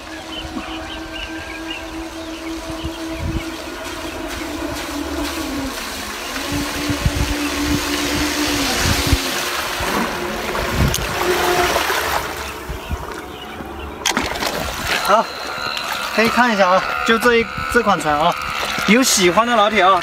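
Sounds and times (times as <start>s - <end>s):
model boat motor humming: 0.0s - 20.0s
splashing wake: 0.0s - 20.0s.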